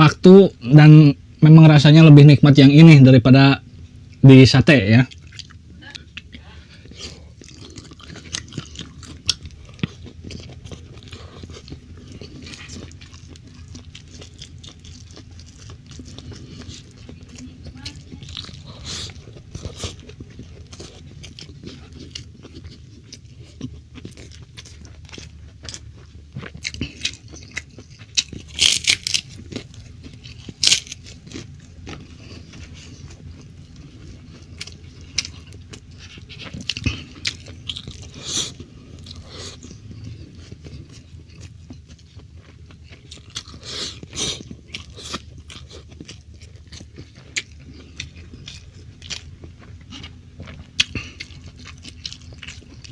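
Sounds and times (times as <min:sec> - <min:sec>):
person chewing food: 0:00.2 - 0:52.9.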